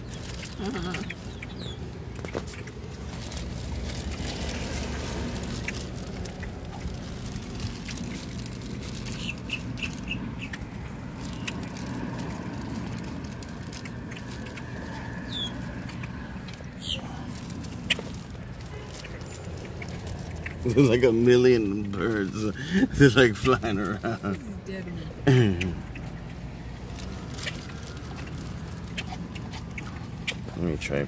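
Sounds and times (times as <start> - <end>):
grackles chirping: 0.0 - 24.1, 25.1 - 30.6.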